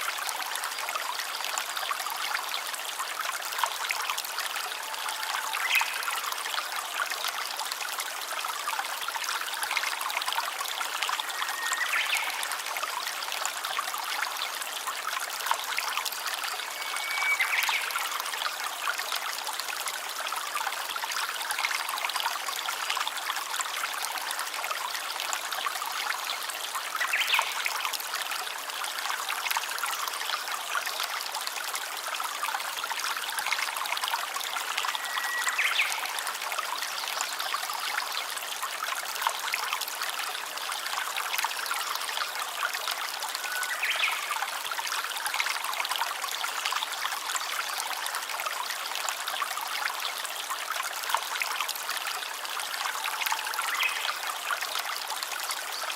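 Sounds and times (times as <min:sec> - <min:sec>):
stream babbling over stones: 0:00.0 - 0:55.9.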